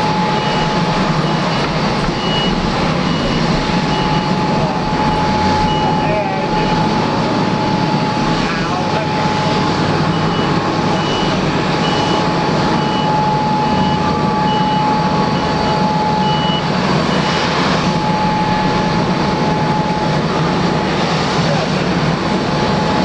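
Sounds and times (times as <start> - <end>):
reversing alarm beeping: 0.0 - 21.1
jet engines idling: 0.0 - 23.0.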